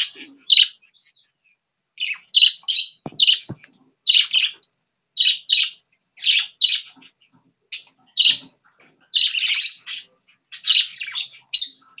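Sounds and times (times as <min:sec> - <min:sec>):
budgerigars chirping and squawking: 0:00.0 - 0:12.0.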